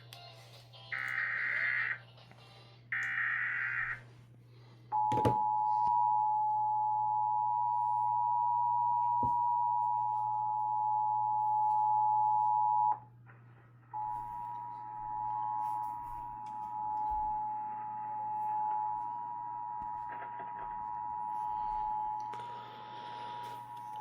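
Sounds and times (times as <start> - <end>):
steady low hum: 0.6 - 24.0.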